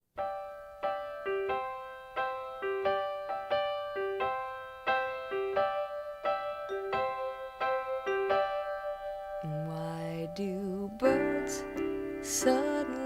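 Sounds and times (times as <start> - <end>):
electric piano chords: 0.2 - 13.0.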